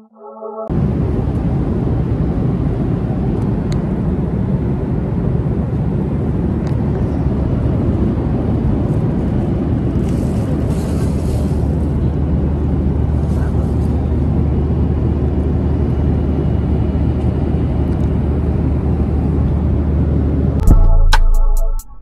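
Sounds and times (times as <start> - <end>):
airplane cabin engine rush: 0.7 - 20.6.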